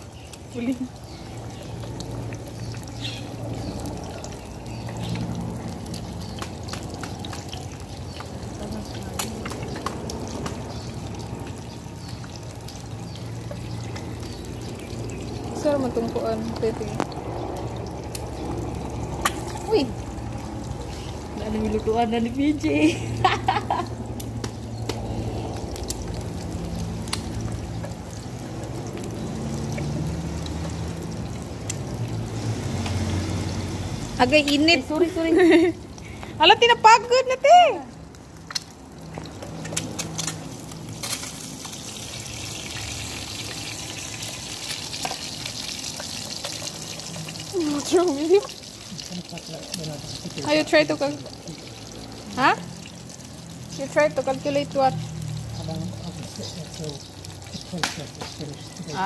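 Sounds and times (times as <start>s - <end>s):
egg sizzling in oil: 0.0s - 36.4s, 37.9s - 59.0s.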